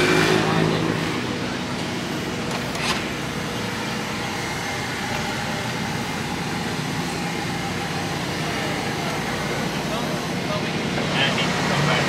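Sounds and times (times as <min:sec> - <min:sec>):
engine droning steadily: 0:00.0 - 0:12.0.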